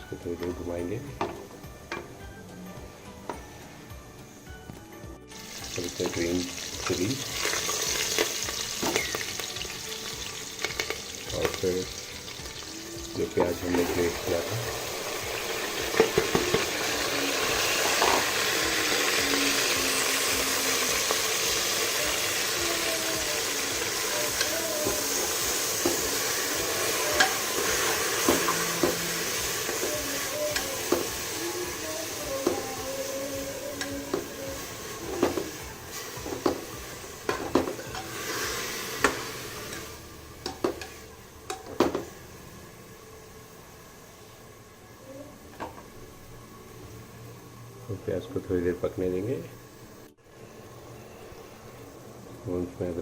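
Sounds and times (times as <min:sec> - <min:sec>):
onion sizzling in hot oil: 0:05.3 - 0:53.0.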